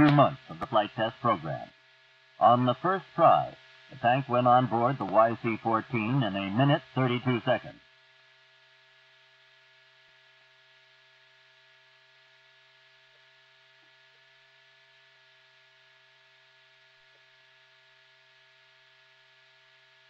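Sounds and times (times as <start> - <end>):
faint hum with hiss: 0.0 - 20.0.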